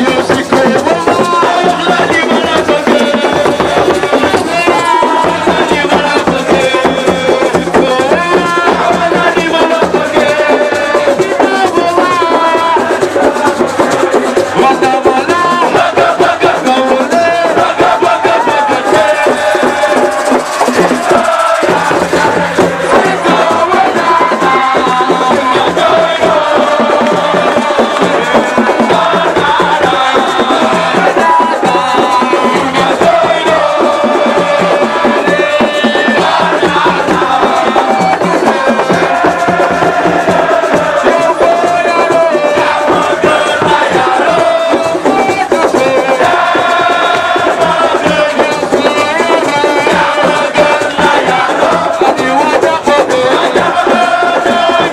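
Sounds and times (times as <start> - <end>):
crowd singing and chanting: 0.0 - 54.9
rattling percussion: 0.0 - 54.9.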